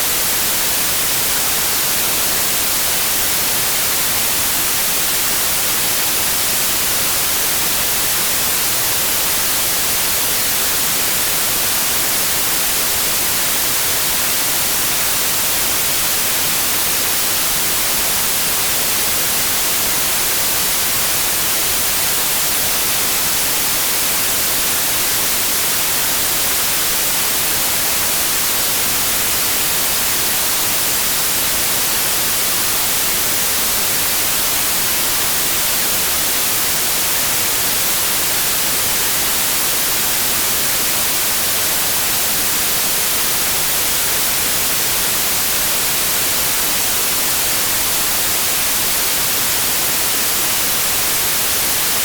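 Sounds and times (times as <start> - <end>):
steady white noise hiss: 0.0 - 52.0.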